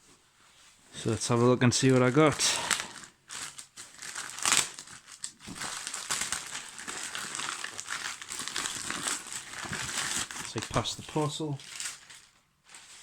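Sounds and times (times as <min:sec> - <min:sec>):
packaging crinkling and rustling: 0:01.3 - 0:13.0.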